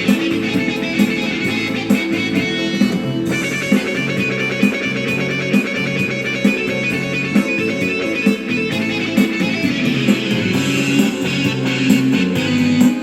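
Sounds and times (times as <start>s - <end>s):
drum beat: 0.0s - 13.0s
keyboard guitar-like melody: 0.0s - 13.0s.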